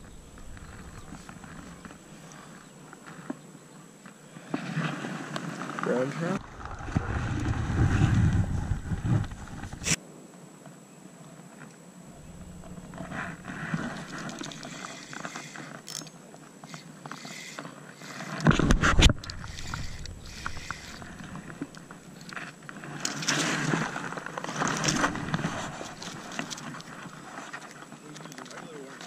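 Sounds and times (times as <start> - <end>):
rustling and scraping handling noise: 0.0 - 10.0, 11.3 - 29.0.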